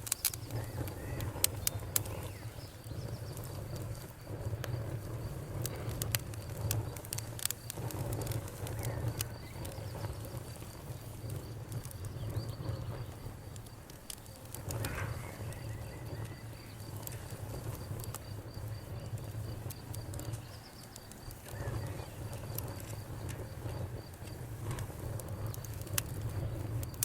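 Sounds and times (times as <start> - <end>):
campfire crackling and popping: 0.0 - 27.0
constant low rumble: 0.0 - 27.0
crickets chirping: 0.0 - 27.0.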